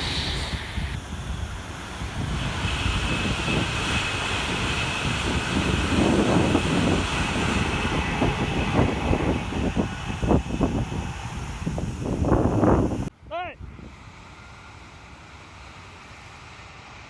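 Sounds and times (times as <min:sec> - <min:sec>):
wind buffeting microphone: 0:00.0 - 0:14.6
high-speed train passing: 0:00.0 - 0:17.0.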